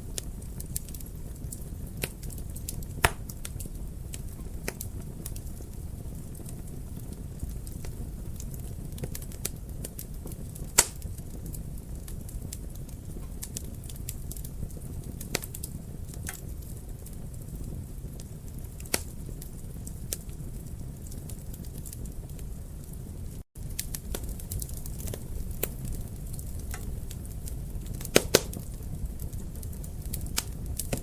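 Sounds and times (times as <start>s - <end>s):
low rumble of flames: 0.0s - 31.0s
wood fire crackling: 0.0s - 31.0s
loud fire pops: 0.1s - 23.0s, 23.6s - 31.0s.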